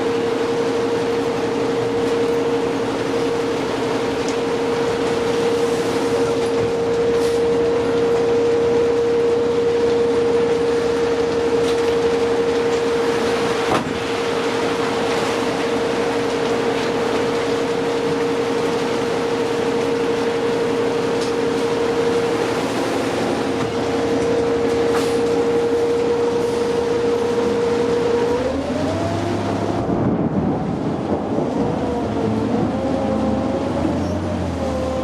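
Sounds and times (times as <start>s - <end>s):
bus engine droning: 0.0s - 35.0s
road noise: 0.0s - 35.0s.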